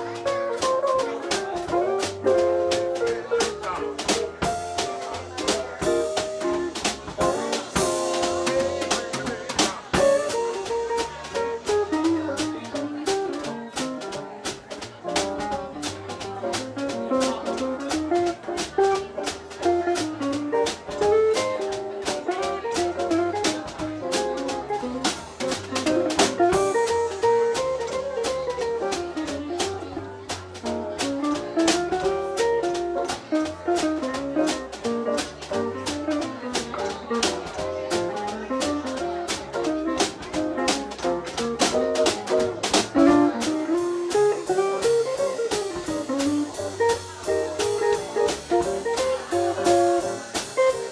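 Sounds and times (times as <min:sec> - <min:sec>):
drum kit hits: 0:00.0 - 0:50.9
jazz band music: 0:00.0 - 0:50.9.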